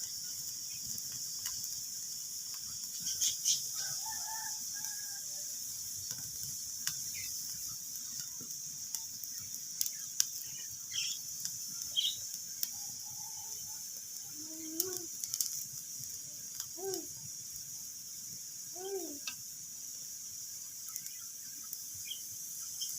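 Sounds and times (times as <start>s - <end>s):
wood fire crackling: 0.0s - 22.9s.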